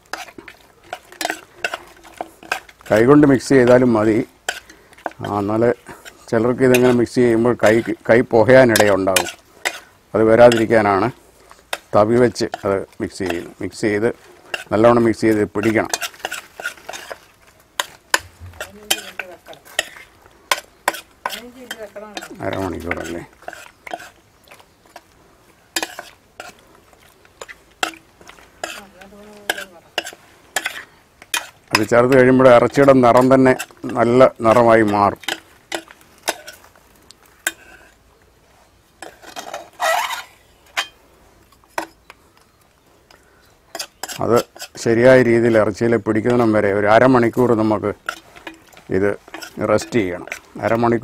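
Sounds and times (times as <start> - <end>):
spoon stirring wet marinade: 0.0 - 51.0.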